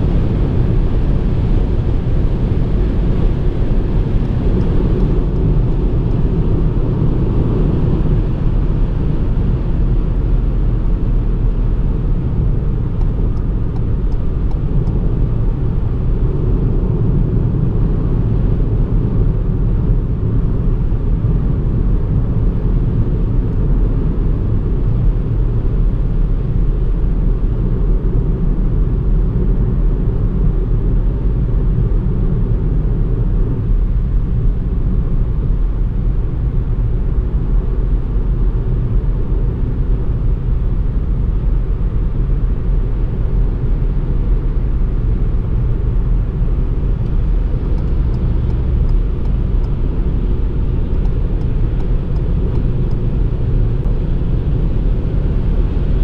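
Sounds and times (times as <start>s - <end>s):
car driving low rumble: 0.0s - 56.0s.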